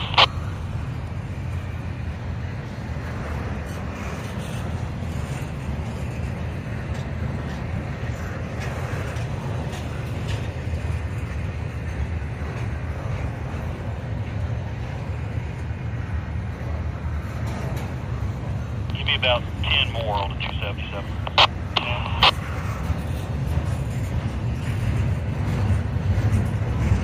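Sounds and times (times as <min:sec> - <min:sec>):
freight train rumbling: 0:00.0 - 0:27.0.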